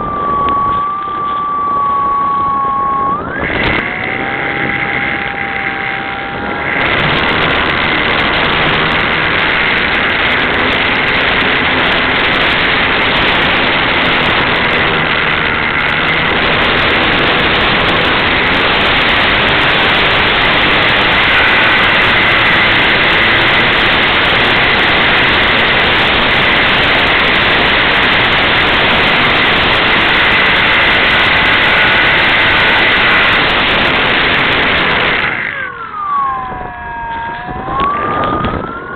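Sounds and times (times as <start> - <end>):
electric motor whine: 0.0 - 38.9
wind noise on microphone: 0.0 - 38.9.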